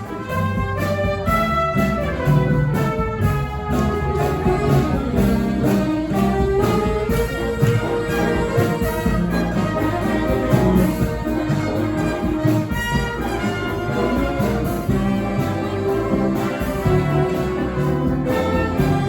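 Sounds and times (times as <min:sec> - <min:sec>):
brass band playing: 0:00.0 - 0:19.0
percussion beat: 0:00.0 - 0:19.0.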